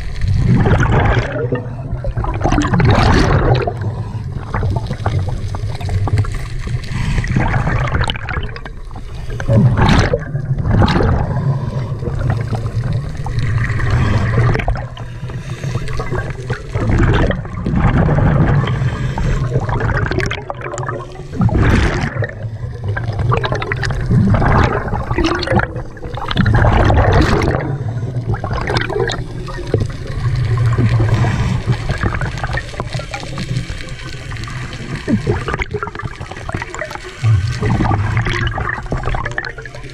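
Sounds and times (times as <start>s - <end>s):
diver bubbles gurgling: 0.0s - 39.9s
low underwater rumble: 0.0s - 39.9s.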